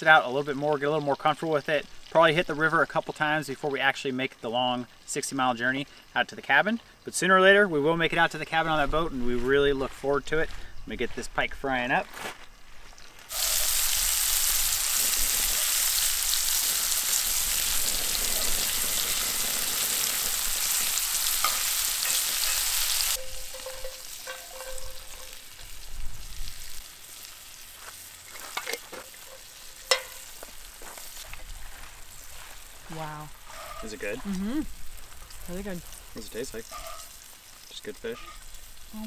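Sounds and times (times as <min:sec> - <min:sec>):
fish sizzling in hot oil: 0:00.0 - 0:06.2, 0:12.9 - 0:39.0.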